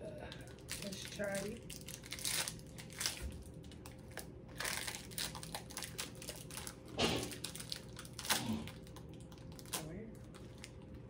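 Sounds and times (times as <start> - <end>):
candy wrapper crinkling: 0.3 - 11.0.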